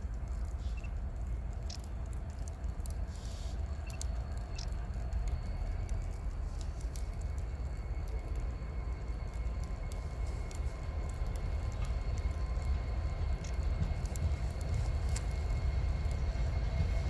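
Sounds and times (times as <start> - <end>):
light ticks: 0.0 - 17.0
wind rumbling on microphone: 0.0 - 17.0.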